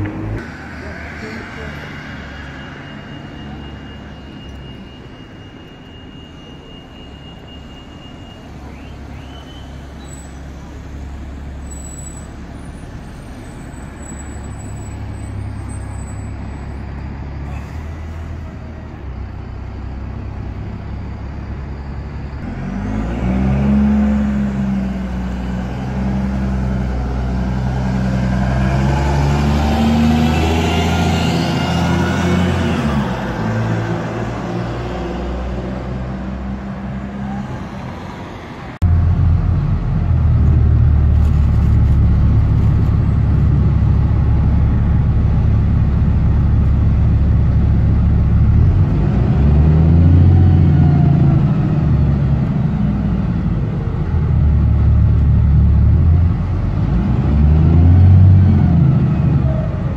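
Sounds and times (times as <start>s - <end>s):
diesel bus engine rumbling: 0.0s - 59.9s.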